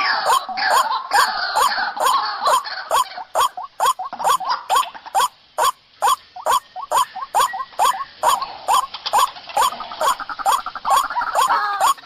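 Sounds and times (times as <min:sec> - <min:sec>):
waterhen calling hoarse kwak: 0:00.0 - 0:12.0.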